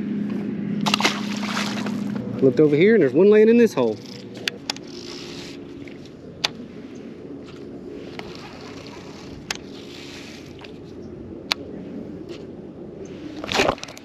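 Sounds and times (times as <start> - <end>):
electric motor humming: 0.0 - 13.3.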